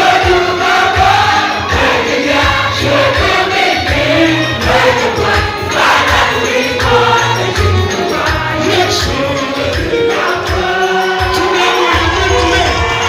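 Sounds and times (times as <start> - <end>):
voices singing together: 0.0 - 13.0
tambourine jingle: 0.2 - 13.0.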